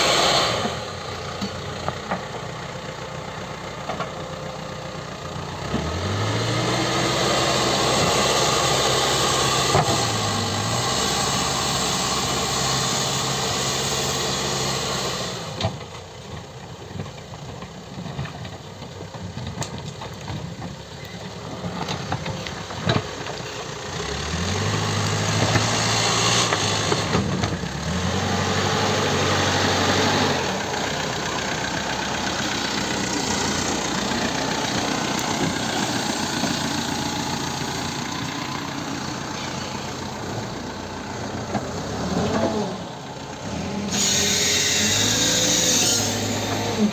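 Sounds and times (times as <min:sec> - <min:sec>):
diesel engine revving: 0:00.0 - 0:16.2, 0:19.4 - 0:46.9.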